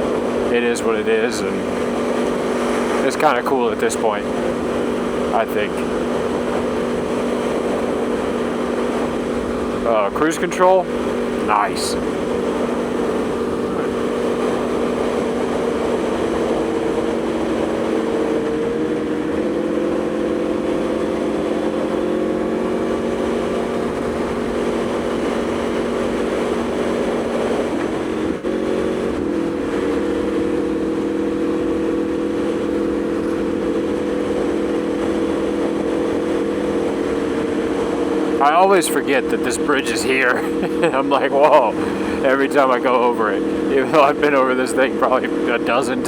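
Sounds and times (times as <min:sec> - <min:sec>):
motorcycle engine cruising: 0:00.0 - 0:46.0.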